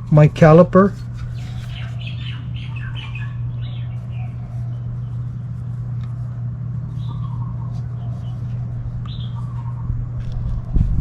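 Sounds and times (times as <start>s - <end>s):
steady low hum: 0.0s - 11.0s
birds chirping and squawking: 1.0s - 10.6s.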